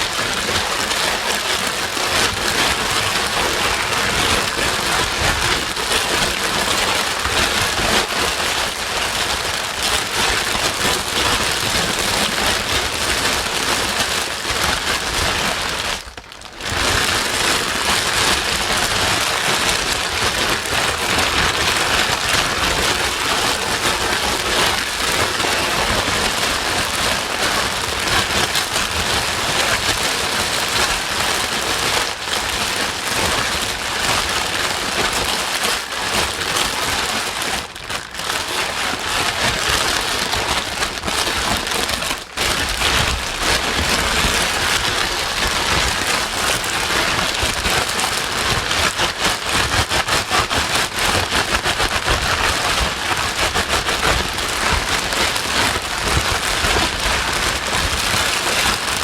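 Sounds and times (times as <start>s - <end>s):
crackling white noise: 0.0s - 59.0s.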